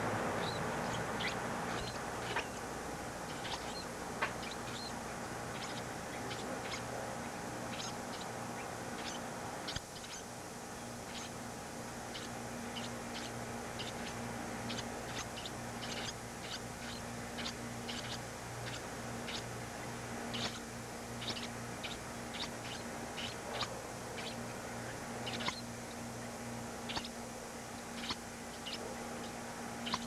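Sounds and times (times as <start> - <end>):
steady low hum: 0.0 - 30.0
baby birds chirping: 0.4 - 11.4, 12.0 - 19.6, 20.2 - 25.7, 26.8 - 27.2, 27.8 - 30.0.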